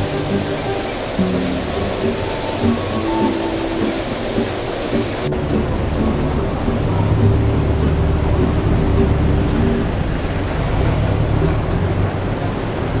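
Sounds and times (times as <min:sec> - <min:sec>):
car engines: 0:00.0 - 0:13.0.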